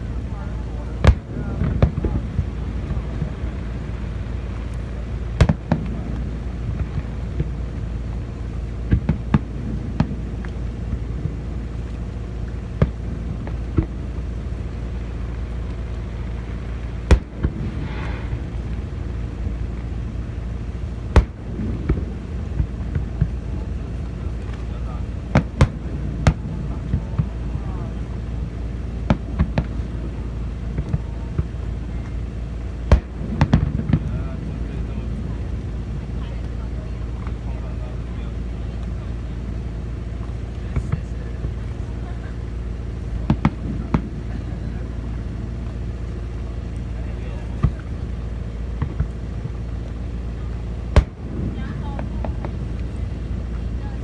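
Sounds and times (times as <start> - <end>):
fireworks bangs: 0.0 - 54.0
low rumble: 0.0 - 54.0.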